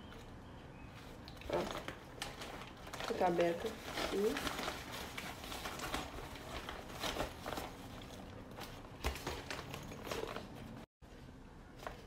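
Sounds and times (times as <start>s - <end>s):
cloth bag rustling: 0.9s - 10.9s.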